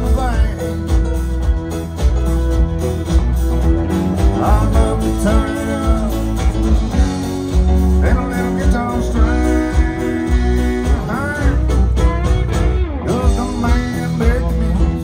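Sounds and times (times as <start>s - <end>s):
live country band playing: 0.0s - 15.0s
sliding lead guitar notes: 0.0s - 15.0s.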